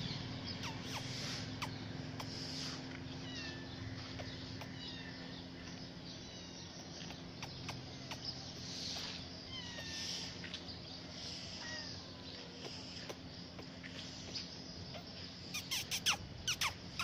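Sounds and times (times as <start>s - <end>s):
kittens mewing: 0.0s - 5.6s, 6.2s - 10.4s, 11.4s - 17.0s
steady low hum: 0.0s - 17.0s.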